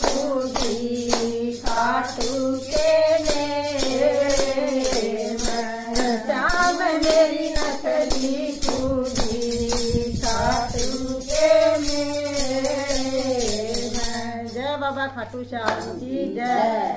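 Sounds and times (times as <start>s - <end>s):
rhythmic hand-clapping: 0.0s - 14.5s, 15.6s - 16.7s
woman singing devotional song: 0.0s - 16.9s.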